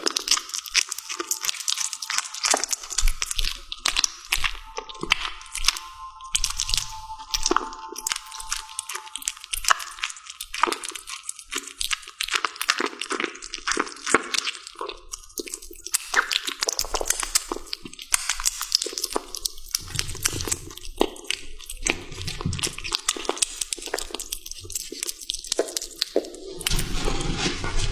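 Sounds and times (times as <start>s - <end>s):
kitten chewing wetly: 0.0s - 26.9s.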